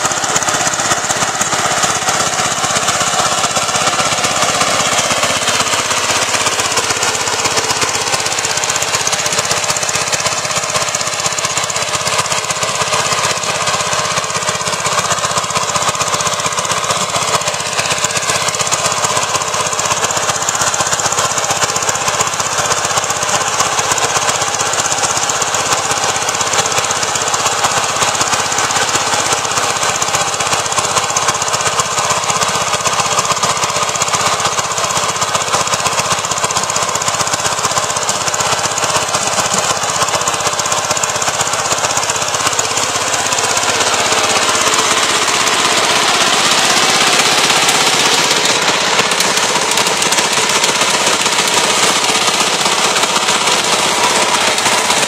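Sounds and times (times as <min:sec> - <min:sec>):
diesel tiller engine knocking: 0:00.0 - 0:55.0.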